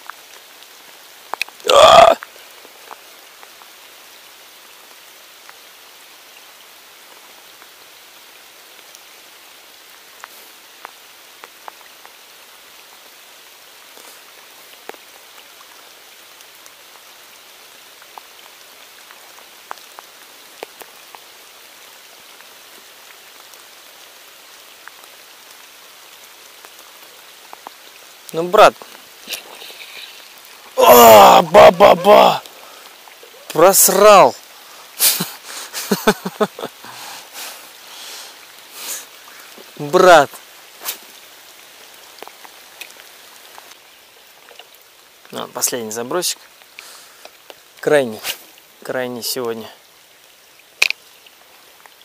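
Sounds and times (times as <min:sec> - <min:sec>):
raindrop ticks: 0:00.0 - 0:03.8, 0:10.0 - 0:13.2, 0:13.8 - 0:30.8, 0:31.4 - 0:52.0
rain falling on river: 0:00.0 - 0:52.0.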